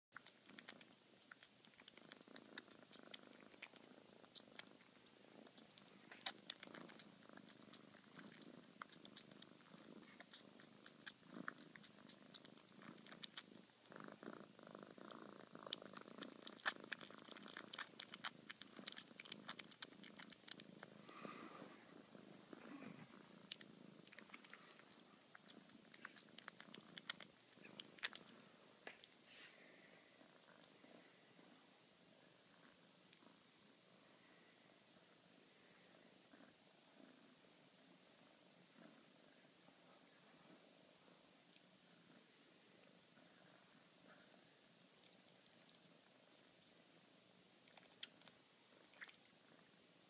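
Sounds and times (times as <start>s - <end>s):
cat purring: 0.2s - 50.0s.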